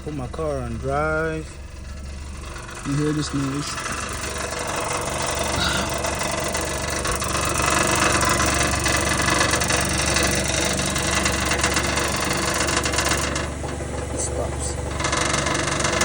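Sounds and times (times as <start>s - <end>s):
car engine idling: 0.0s - 16.0s
metallic rattle under car: 0.0s - 16.0s.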